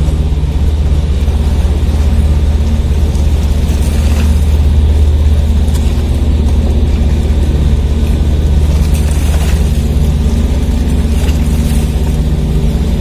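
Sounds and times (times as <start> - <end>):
ship diesel engines droning: 0.0 - 13.0.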